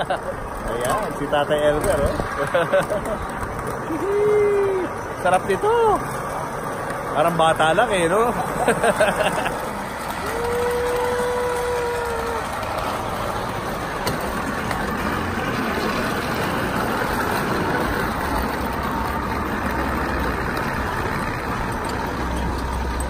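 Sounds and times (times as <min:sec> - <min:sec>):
trolley rumbling on rail tracks: 0:00.0 - 0:23.0.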